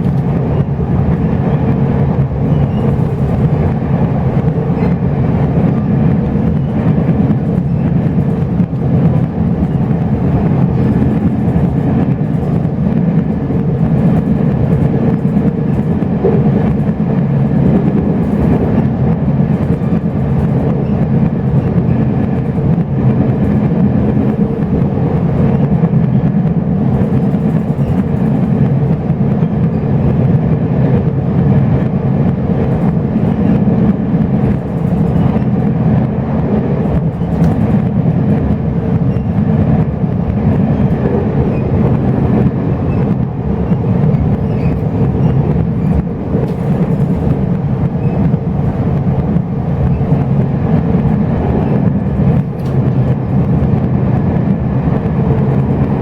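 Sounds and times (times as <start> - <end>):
train carriage rumbling on rails: 0.0 - 56.0.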